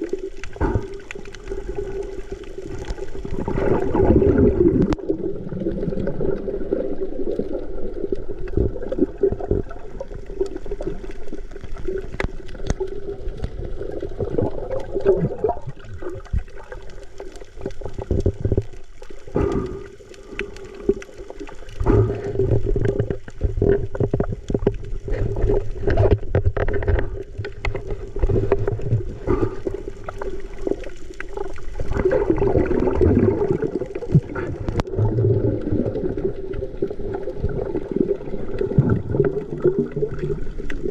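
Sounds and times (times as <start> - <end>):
water gurgling and sloshing: 0.0 - 40.9.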